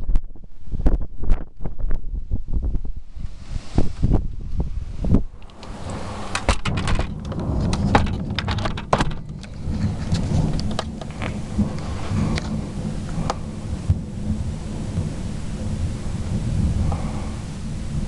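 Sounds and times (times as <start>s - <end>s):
thunder crackles: 0.0s - 18.0s
thunder rumbling: 0.0s - 18.0s
rain hiss: 3.1s - 18.0s.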